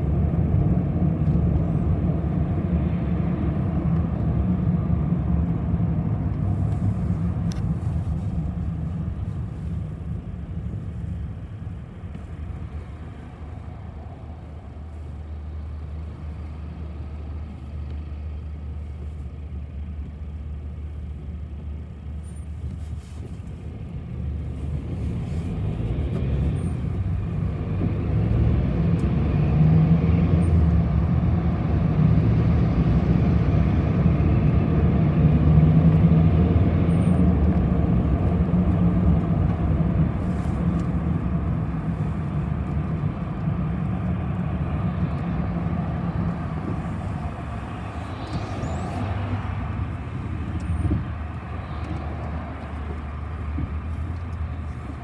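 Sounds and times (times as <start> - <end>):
bus engine hum: 0.0 - 55.0
road noise: 0.0 - 55.0.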